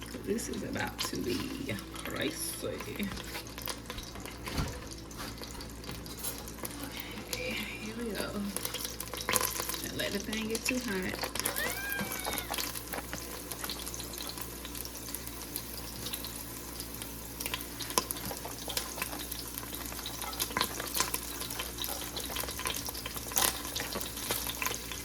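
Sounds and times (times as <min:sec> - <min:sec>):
oil popping and crackling: 0:00.0 - 0:25.0
onions sizzling in oil: 0:00.0 - 0:25.0.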